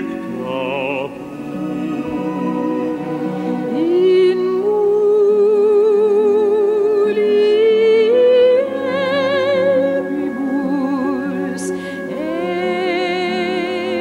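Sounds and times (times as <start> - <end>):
instrumental accompaniment: 0.0 - 14.0
person singing with vibrato: 0.0 - 14.0.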